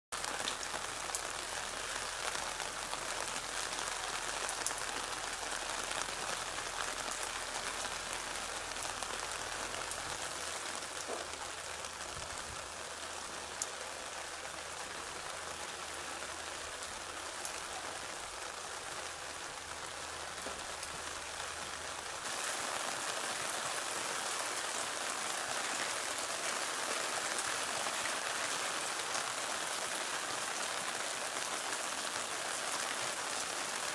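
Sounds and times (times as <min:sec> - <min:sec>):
rain pattering: 0:00.1 - 0:33.9.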